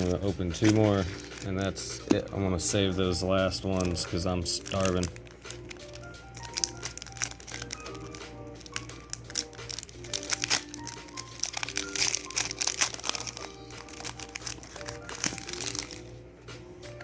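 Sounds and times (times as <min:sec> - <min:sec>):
foil wrapper crinkling: 0:00.0 - 0:16.2
background music: 0:00.0 - 0:17.0.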